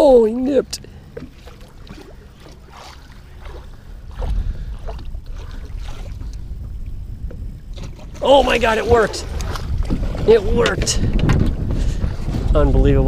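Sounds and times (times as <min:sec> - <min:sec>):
water lapping at boat hull: 0:00.0 - 0:12.9
wind rumbling on microphone: 0:00.0 - 0:13.0.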